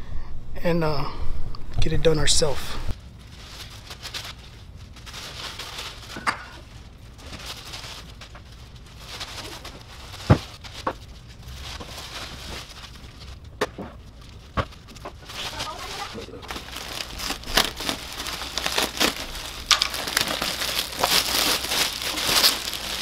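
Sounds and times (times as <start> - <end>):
plastic film crinkling: 2.9 - 23.0.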